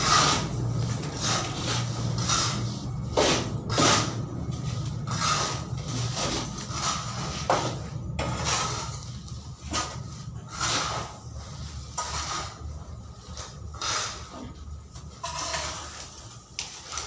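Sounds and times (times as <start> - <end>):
low background rumble: 0.0 - 15.8.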